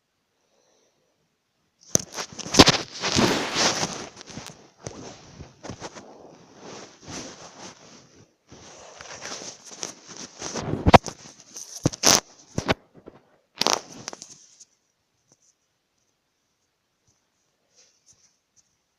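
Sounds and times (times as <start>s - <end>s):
crackling rustling handling noise: 1.8s - 18.9s.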